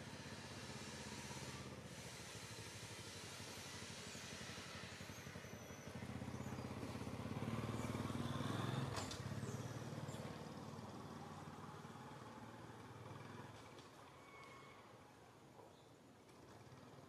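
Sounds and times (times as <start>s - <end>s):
vehicle engine droning: 0.0s - 14.6s.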